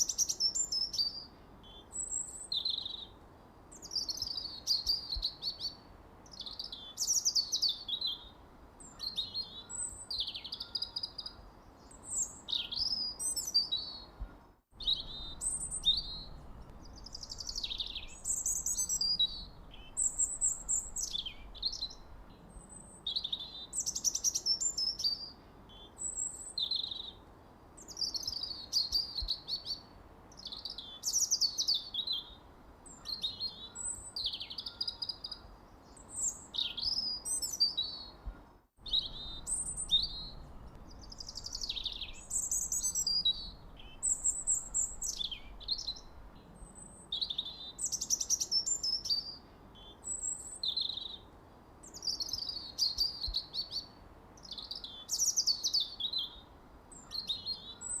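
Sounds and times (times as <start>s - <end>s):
faint steady hiss: 0.0s - 58.0s
songbirds chirping: 0.0s - 58.0s.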